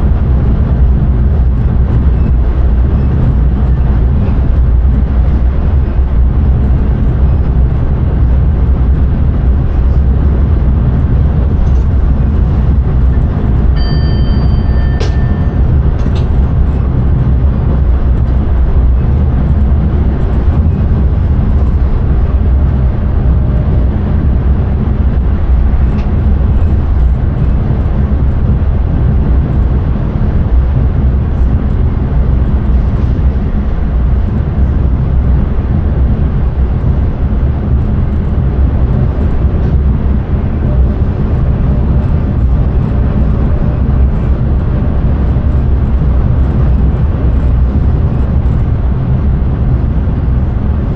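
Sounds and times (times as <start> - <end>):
train rumbling along track: 0.0 - 50.9.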